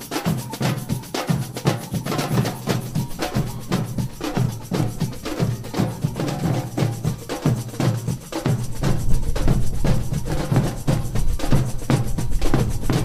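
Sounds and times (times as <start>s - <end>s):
samba drum band: 0.0s - 13.0s.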